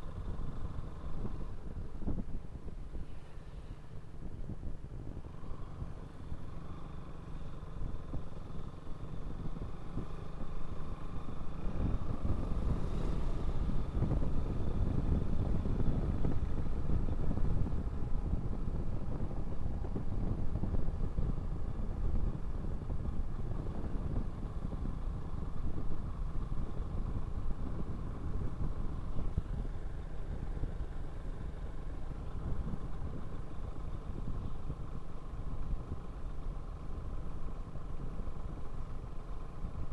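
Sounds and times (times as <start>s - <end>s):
road and wind noise: 0.0s - 39.9s
motorcycle running: 5.2s - 39.9s.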